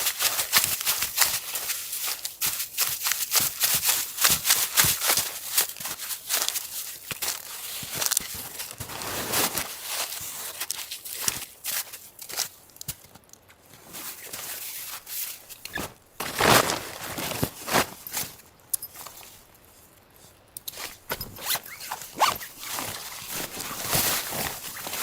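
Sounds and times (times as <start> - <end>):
gear rustling and scraping: 0.0 - 25.0.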